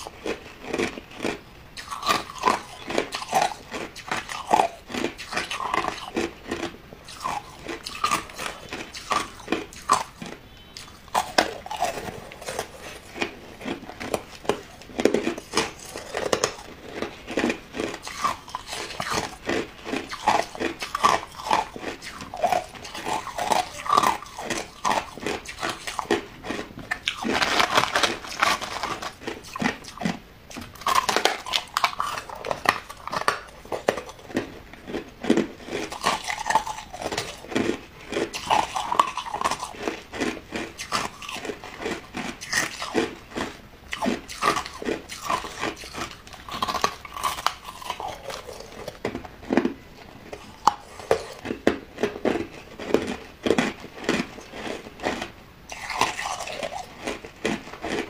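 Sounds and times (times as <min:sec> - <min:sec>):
person chewing ice: 0:00.0 - 0:58.0.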